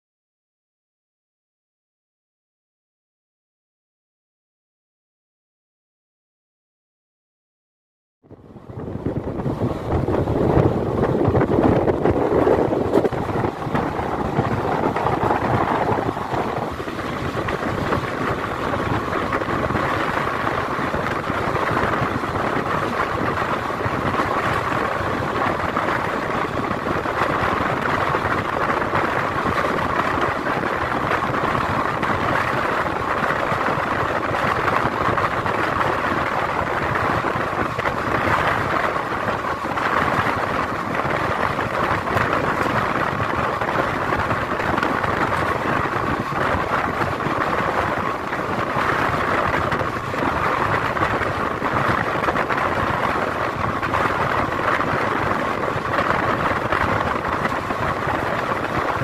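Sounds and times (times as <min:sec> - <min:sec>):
rushing air: 0:08.3 - 0:59.0
train wheels rolling on rails: 0:08.7 - 0:59.0.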